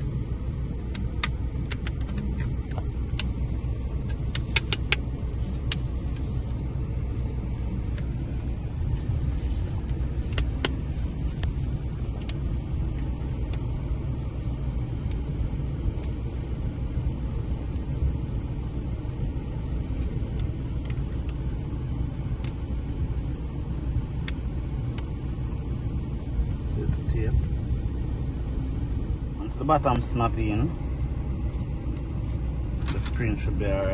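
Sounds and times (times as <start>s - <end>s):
low background rumble: 0.0s - 33.9s.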